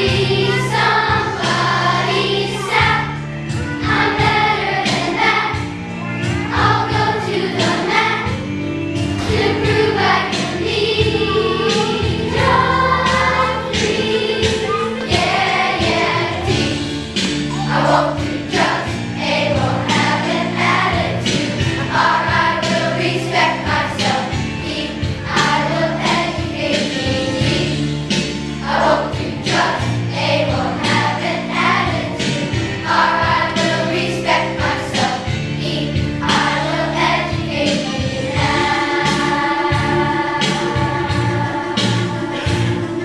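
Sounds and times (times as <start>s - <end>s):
children's choir singing: 0.0s - 43.0s.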